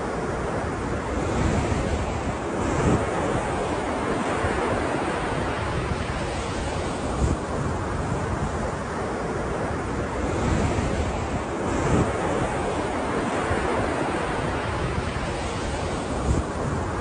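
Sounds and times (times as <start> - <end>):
ocean waves surf: 0.0 - 17.0
wind noise on microphone: 0.0 - 17.0.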